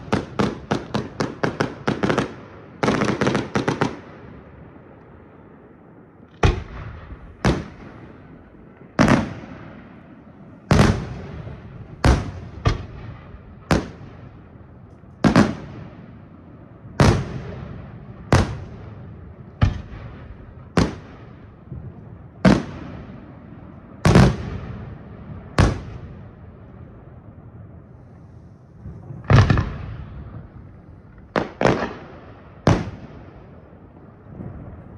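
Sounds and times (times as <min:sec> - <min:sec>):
fireworks bangs: 0:00.0 - 0:34.9.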